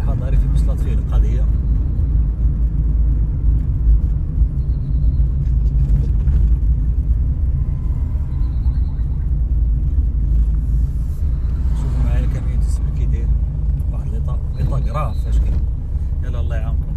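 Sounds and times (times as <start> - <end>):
car interior driving rumble: 0.0 - 16.9.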